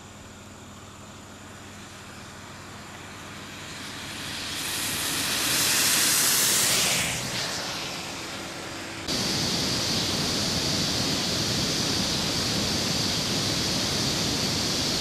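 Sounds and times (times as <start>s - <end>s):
tyres hissing on wet road: 1.3s - 15.0s.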